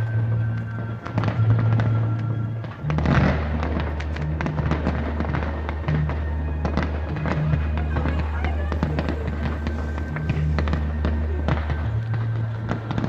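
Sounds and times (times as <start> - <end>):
fireworks popping and banging: 0.0 - 13.0
loud music with deep bass: 0.0 - 13.0.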